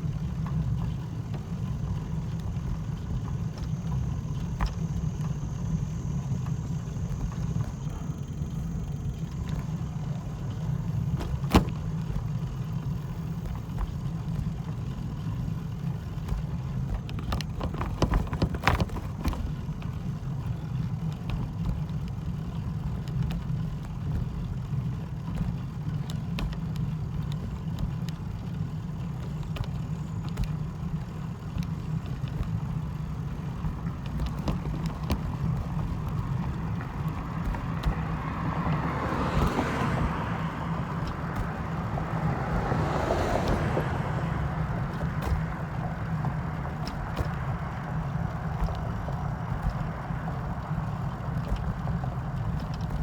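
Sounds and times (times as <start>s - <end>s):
low vehicle rumble: 0.0s - 53.0s.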